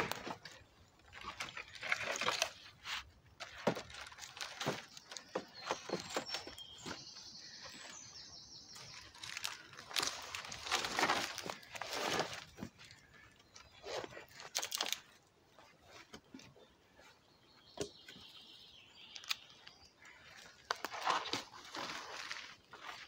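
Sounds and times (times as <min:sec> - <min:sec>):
wooden poles scraping and rustling: 0:00.0 - 0:07.9, 0:08.7 - 0:17.3, 0:20.0 - 0:23.0.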